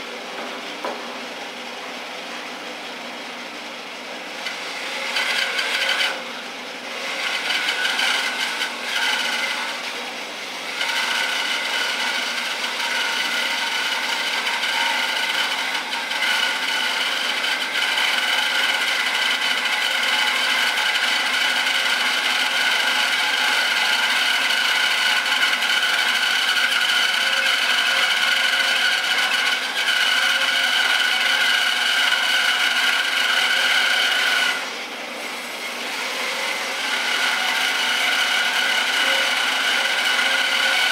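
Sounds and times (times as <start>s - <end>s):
bandsaw cutting wood: 4.2s - 40.9s.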